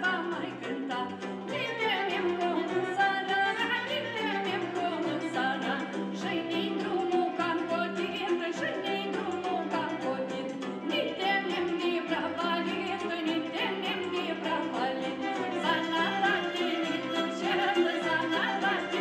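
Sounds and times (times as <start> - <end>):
person singing: 0.0 - 19.0.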